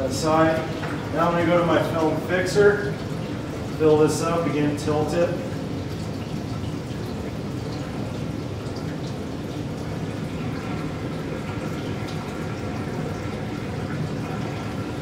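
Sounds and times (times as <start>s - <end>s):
liquid pouring into plastic tank: 0.0s - 15.0s.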